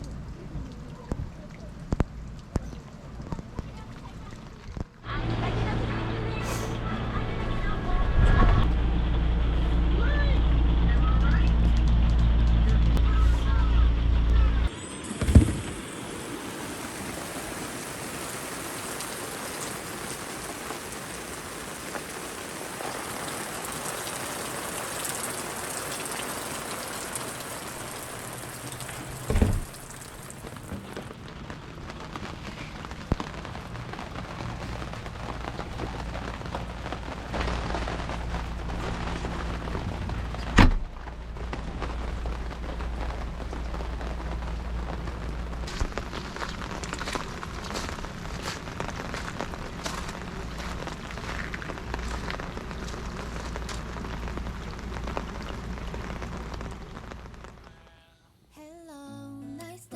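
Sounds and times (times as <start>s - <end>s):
rain patter: 0.0s - 58.1s.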